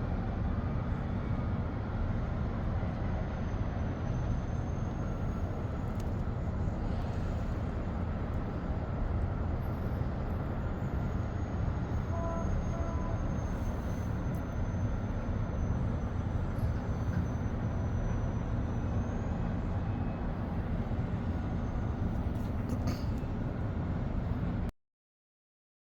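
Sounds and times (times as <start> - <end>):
city street traffic rumble: 0.0 - 24.7.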